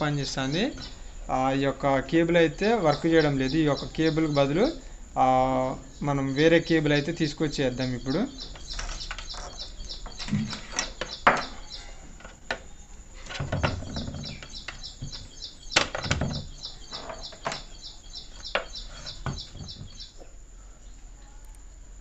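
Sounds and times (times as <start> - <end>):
bird chirping: 0.0 - 21.6.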